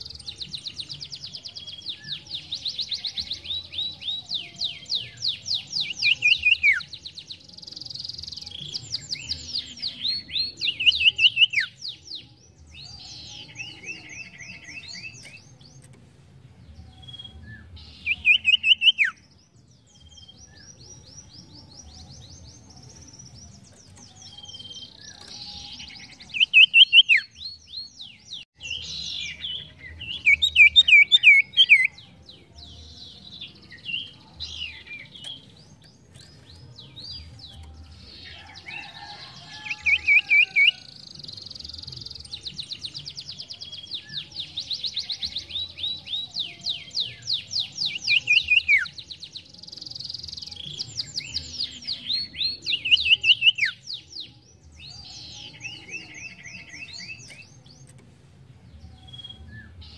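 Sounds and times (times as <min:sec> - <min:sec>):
bird singing chattering trills: 0:00.0 - 0:16.0, 0:16.8 - 0:54.0.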